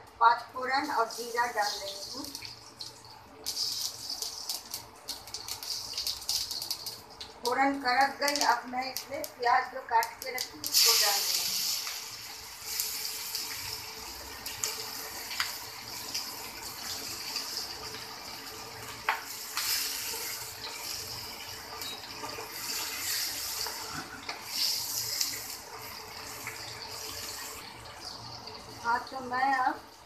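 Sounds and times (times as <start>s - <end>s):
onion sizzling in oil: 0.0s - 30.0s.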